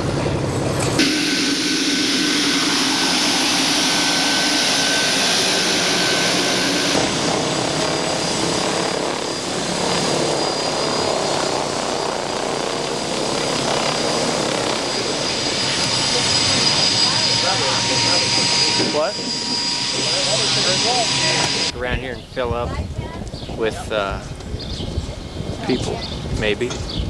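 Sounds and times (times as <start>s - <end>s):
helicopter engine and rotor: 0.0s - 21.8s, 22.7s - 27.0s.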